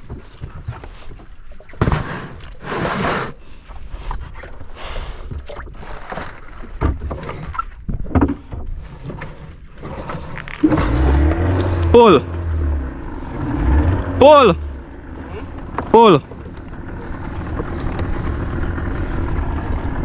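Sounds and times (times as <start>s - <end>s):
water sloshing around boat: 0.0s - 20.0s.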